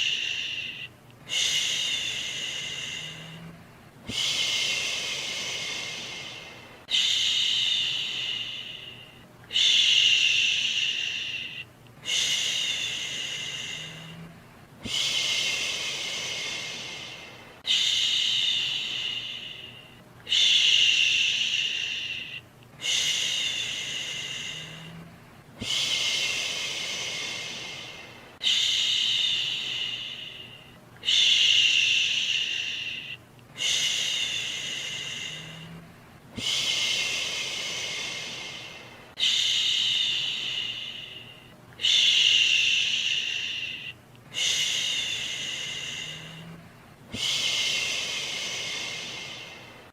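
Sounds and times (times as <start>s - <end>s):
person shushing: 0.0s - 49.9s.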